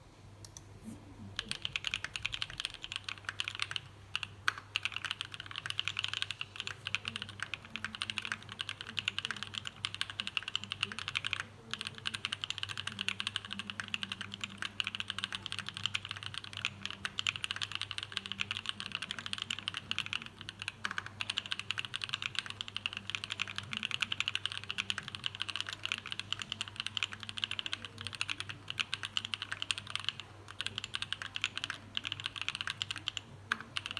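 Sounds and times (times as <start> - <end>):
faint low hum: 0.0 - 33.9
mechanical keyboard typing: 1.4 - 33.9.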